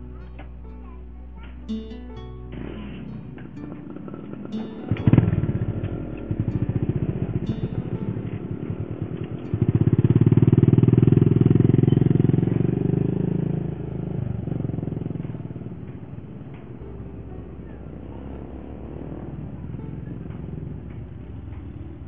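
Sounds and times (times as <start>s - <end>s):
small motorcycle engine: 2.5s - 22.0s.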